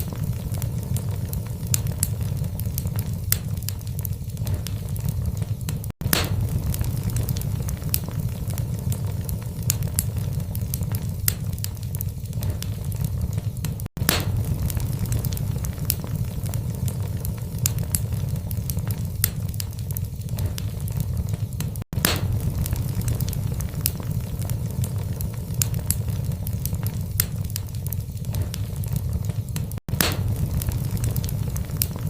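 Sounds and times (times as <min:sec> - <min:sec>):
fire flames rumbling: 0:00.0 - 0:32.0
logs crackling and popping: 0:00.0 - 0:32.0.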